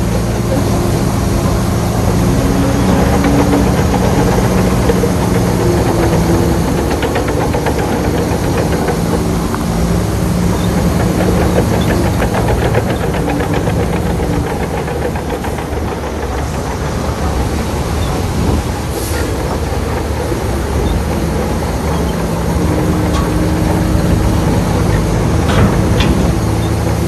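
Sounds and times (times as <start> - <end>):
bulldozer diesel engine under load: 0.0 - 27.0
steel tracks clattering: 0.0 - 27.0.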